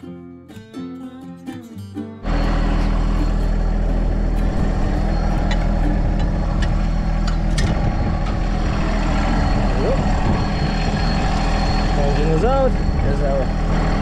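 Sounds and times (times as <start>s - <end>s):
heavy vehicle engine idling: 2.2s - 14.0s.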